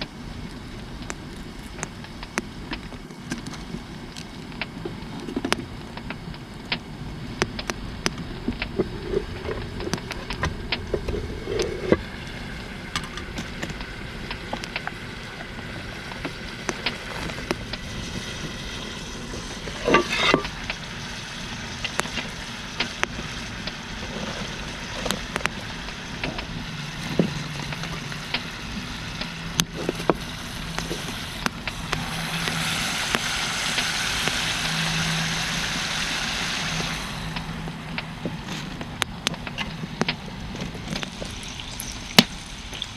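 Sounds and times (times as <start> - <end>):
crackling pops: 0.0 - 35.4, 36.0 - 42.9
food sizzling over campfire: 0.0 - 42.9.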